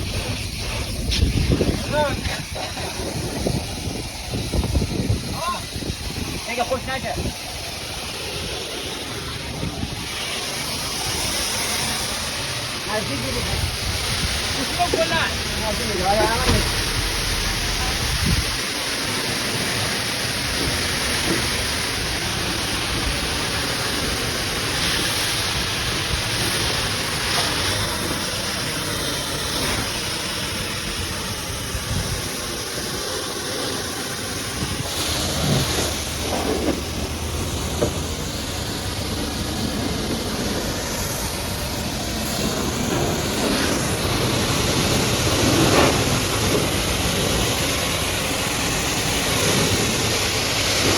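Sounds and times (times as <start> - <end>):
pressure washer water jet spraying: 0.0 - 50.9.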